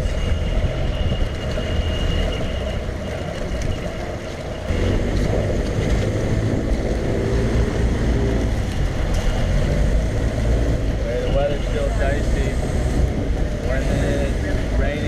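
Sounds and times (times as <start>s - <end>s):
motorboat engine running: 0.0s - 15.0s
water noise: 0.0s - 15.0s
wind noise: 0.0s - 15.0s.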